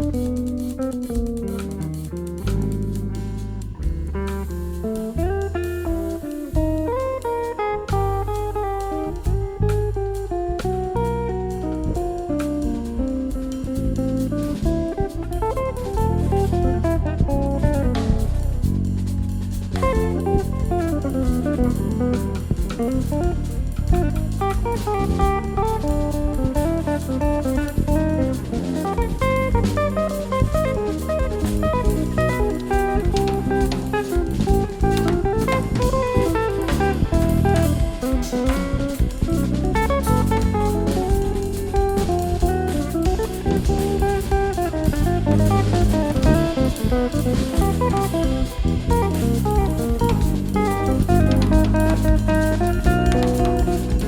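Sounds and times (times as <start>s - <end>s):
bass: 0.0s - 54.0s
drum kit: 0.0s - 54.0s
live instrumental band: 0.0s - 54.0s
plucked guitar melody: 0.0s - 54.0s.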